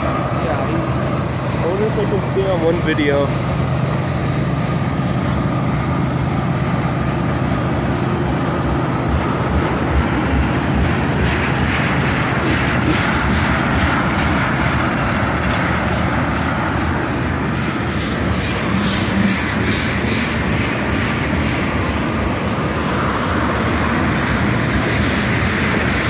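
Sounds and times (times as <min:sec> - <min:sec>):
freight train rumbling past: 0:00.0 - 0:26.0
wheels clicking over rail joints: 0:00.0 - 0:26.0.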